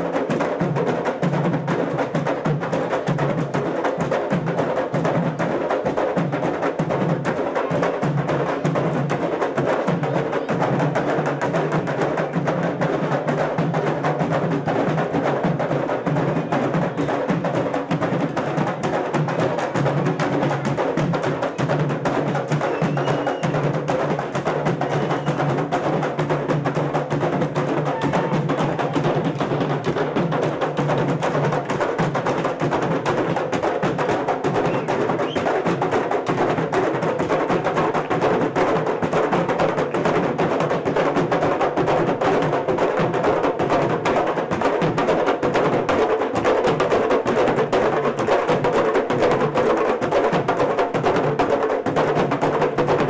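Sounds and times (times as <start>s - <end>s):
drum troupe playing barrel drums: 0.0s - 53.0s.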